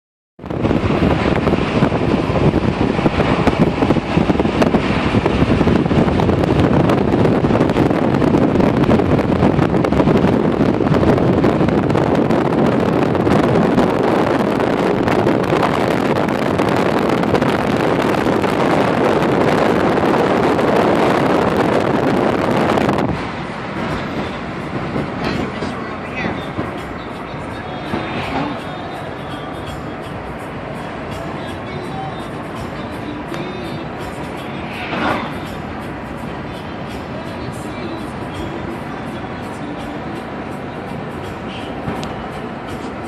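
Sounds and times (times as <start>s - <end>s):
car road and engine noise: 0.4s - 43.0s
wind on microphone: 0.4s - 43.0s.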